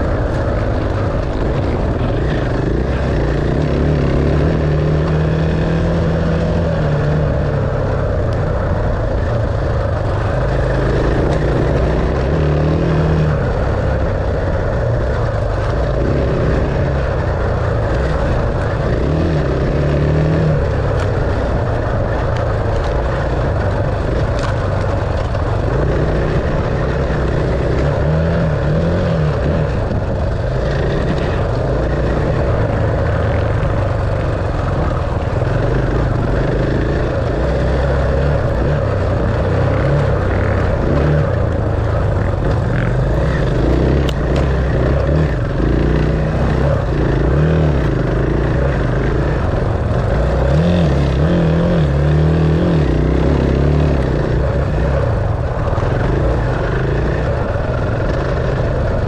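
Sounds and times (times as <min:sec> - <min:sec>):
constant rushing noise: 0:00.0 - 0:59.0
dirt bike engine running: 0:00.0 - 0:59.0.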